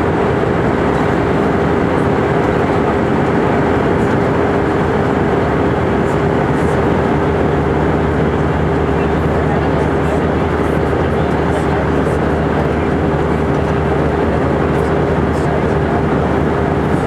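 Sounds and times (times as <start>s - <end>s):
airliner cabin engine and airflow: 0.0s - 17.0s
constant droning tone: 0.0s - 17.0s.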